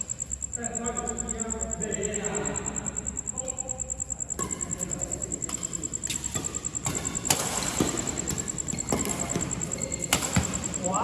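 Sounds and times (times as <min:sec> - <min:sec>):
faint pulsing high tone: 0:00.0 - 0:11.0.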